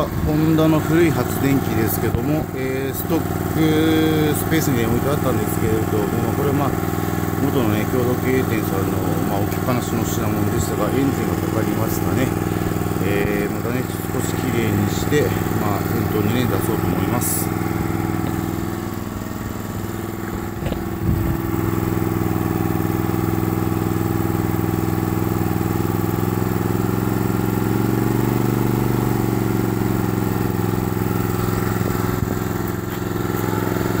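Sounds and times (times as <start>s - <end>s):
generator engine running: 0.0s - 34.0s.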